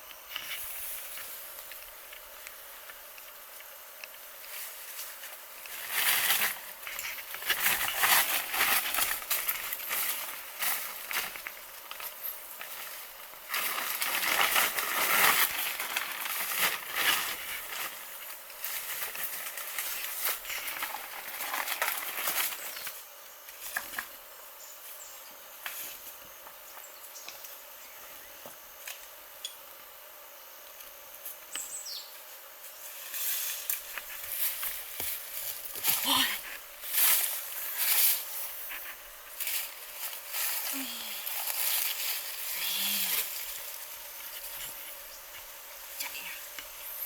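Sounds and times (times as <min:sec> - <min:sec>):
outdoor background: 0:00.0 - 0:47.0
rustling and crackling: 0:00.1 - 0:24.1, 0:32.3 - 0:47.0.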